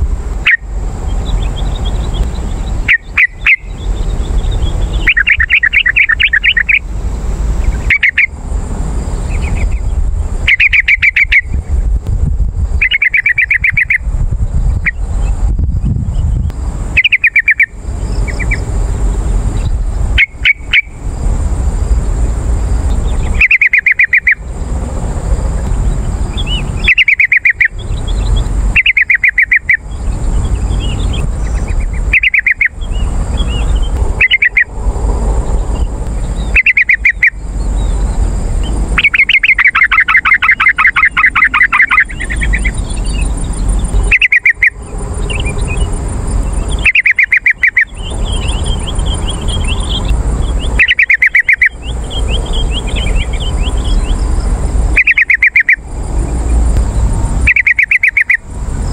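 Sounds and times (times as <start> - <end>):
bulbul singing: 0.0 - 58.9
steady background noise: 0.0 - 58.9.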